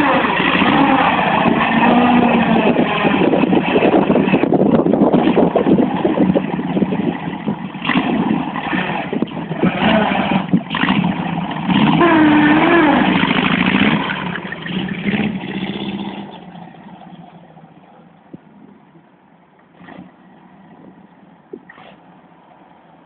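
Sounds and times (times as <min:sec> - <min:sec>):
trike engine revving: 0:00.0 - 0:23.0.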